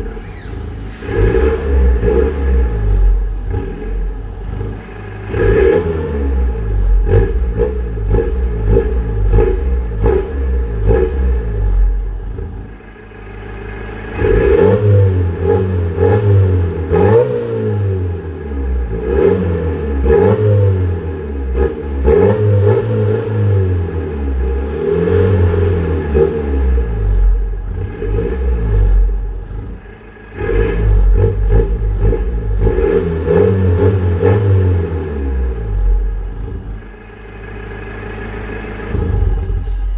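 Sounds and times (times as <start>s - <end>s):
diesel car engine revving: 0.0s - 39.9s.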